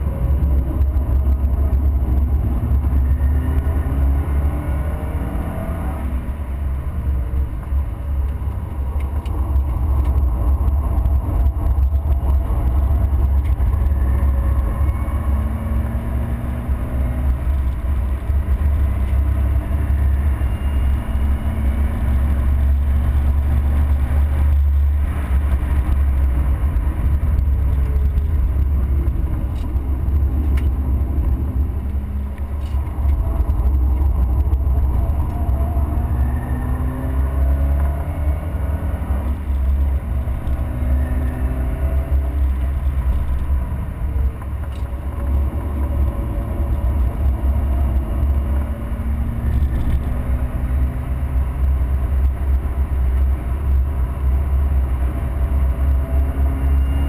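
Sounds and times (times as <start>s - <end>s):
race car engine: 0.0s - 57.0s
road noise: 0.0s - 57.0s.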